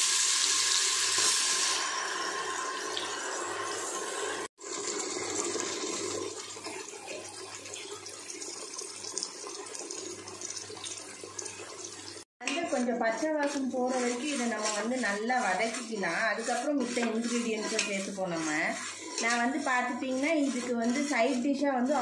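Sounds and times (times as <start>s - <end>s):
paste sizzling in hot oil: 0.0s - 22.0s.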